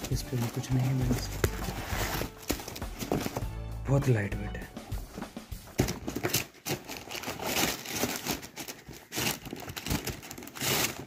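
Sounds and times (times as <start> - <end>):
tissue paper rustling and crinkling: 0.0 - 3.5, 5.1 - 11.0.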